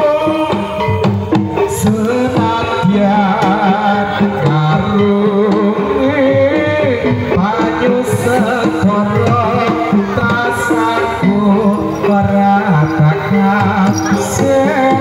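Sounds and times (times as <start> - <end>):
hand drums beating: 0.0 - 15.0
person singing wavering: 0.0 - 15.0
sustained pitched instruments: 0.0 - 15.0.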